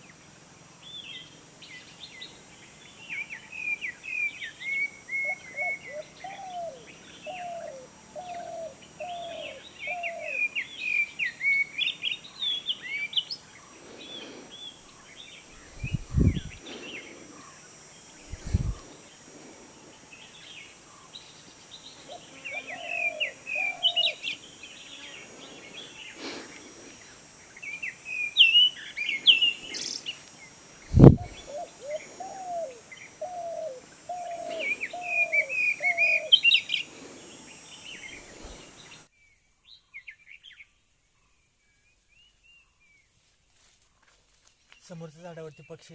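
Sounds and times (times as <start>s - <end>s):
wild birds chirping: 0.0s - 43.2s.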